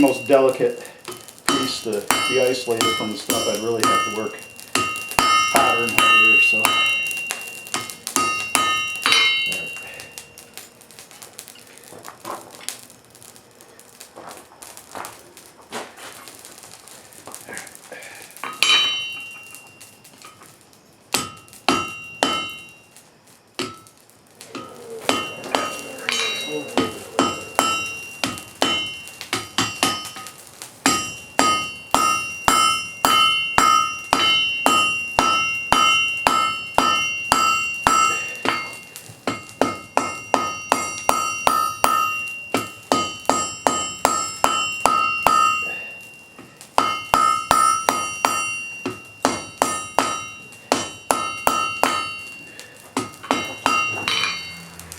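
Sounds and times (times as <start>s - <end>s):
hammer striking iron on anvil: 0.0s - 10.4s, 18.4s - 20.5s, 21.1s - 22.8s, 23.6s - 54.9s.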